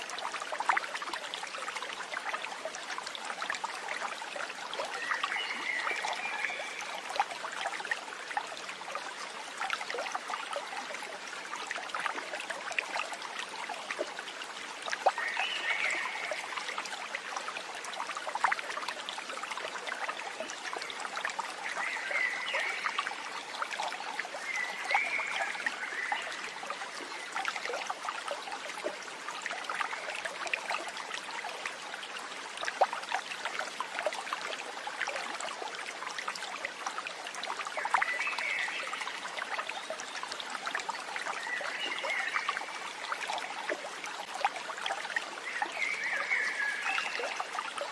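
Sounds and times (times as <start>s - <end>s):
stream water babbling: 0.0s - 47.9s.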